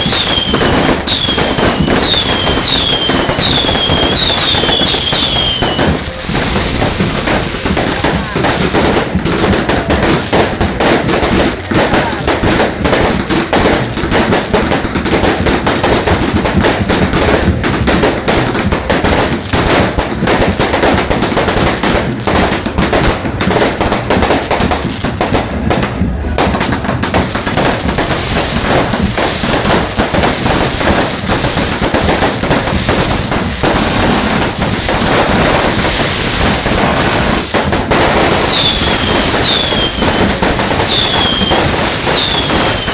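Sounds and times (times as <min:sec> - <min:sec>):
fireworks banging and crackling: 0:00.0 - 0:42.9.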